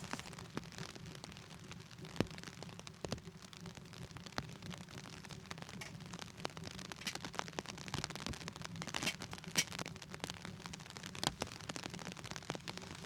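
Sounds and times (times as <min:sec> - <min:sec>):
rain pattering on a tent: 0:00.0 - 0:13.0
wood fire crackling: 0:00.0 - 0:13.0.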